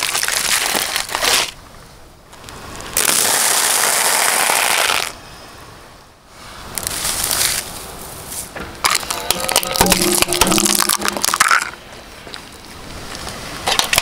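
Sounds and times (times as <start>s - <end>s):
dry noodles crunching under tyre: 0.0s - 1.6s, 2.3s - 5.2s, 6.8s - 14.0s.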